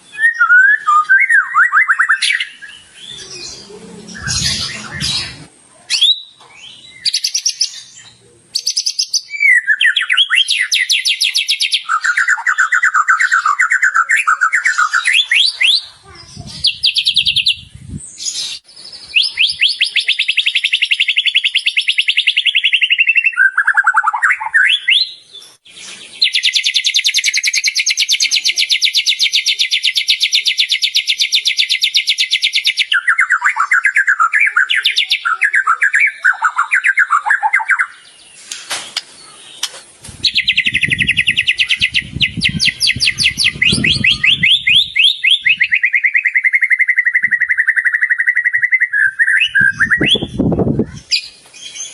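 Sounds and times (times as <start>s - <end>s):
bird singing trills: 0.0s - 38.4s, 39.0s - 51.9s.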